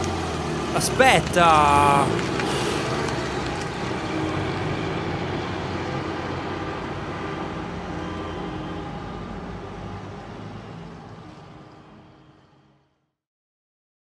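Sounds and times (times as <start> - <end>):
car driving away: 0.0 - 12.1.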